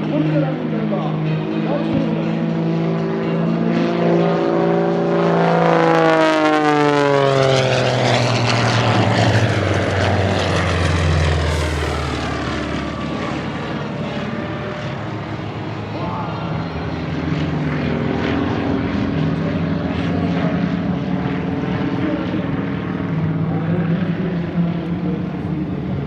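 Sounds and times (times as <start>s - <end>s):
propeller plane passing by: 0.0s - 26.0s.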